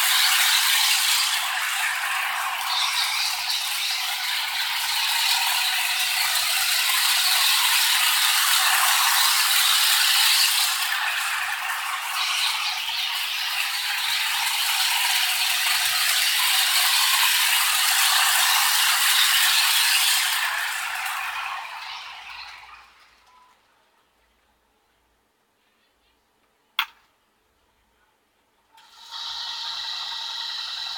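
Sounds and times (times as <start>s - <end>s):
model train rattling on track: 0.0s - 22.8s, 28.8s - 30.9s.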